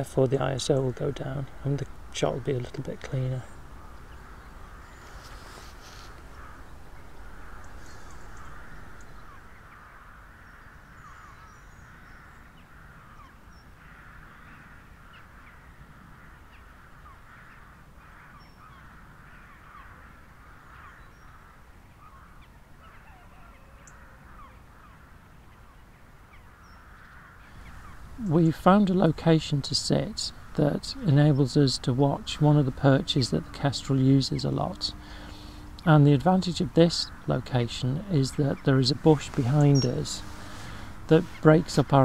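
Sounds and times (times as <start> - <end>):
birds chattering: 0.0 - 42.0.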